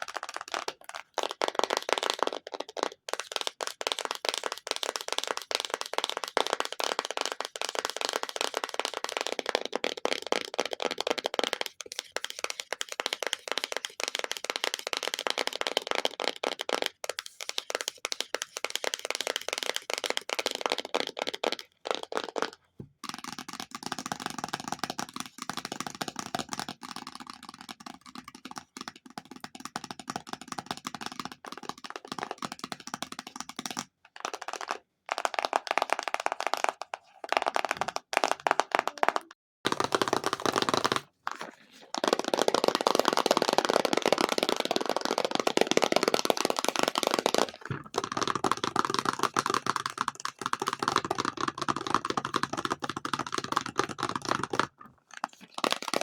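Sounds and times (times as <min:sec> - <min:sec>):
fast tapping on an object: 0:00.0 - 0:54.9.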